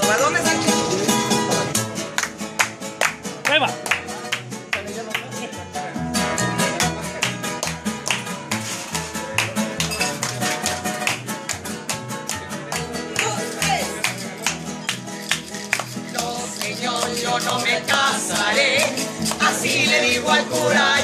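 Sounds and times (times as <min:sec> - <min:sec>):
acoustic guitars strumming: 0:00.0 - 0:21.0
plucked upright bass: 0:00.0 - 0:21.0.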